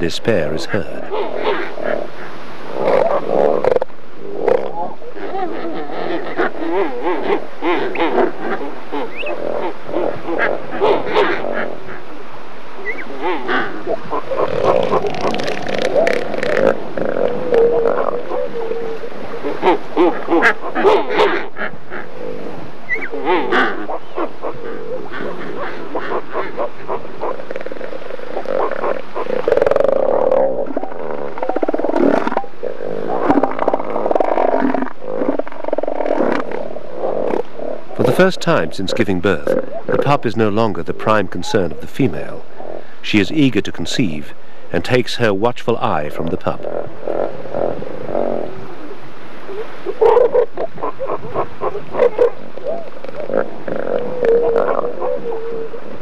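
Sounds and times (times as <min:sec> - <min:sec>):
elephant seals calling: 0:00.0 - 0:45.0, 0:45.7 - 0:56.0
steady background hiss: 0:00.0 - 0:56.0
seal pulsing call: 0:00.7 - 0:12.2, 0:12.8 - 0:40.7, 0:46.6 - 0:56.0.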